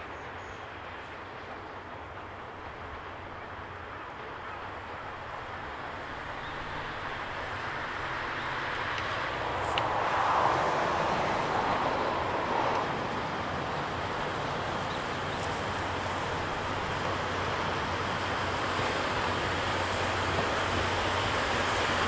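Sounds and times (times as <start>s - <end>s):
steam locomotive rumble and hiss: 0.0s - 22.0s.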